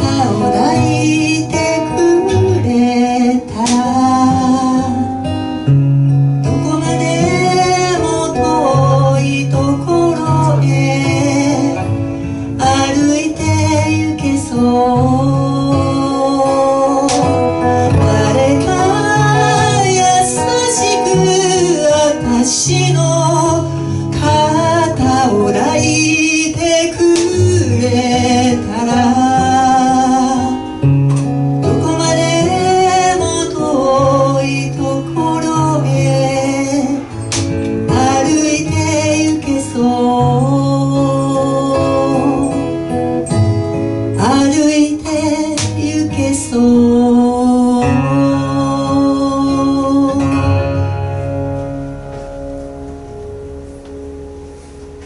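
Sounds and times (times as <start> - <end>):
woman singing into microphone: 0.0 - 51.4
acoustic guitar: 0.0 - 55.0.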